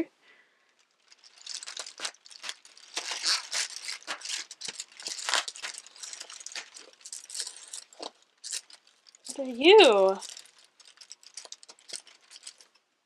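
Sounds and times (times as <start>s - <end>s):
wrappers crinkling: 0.6s - 12.9s.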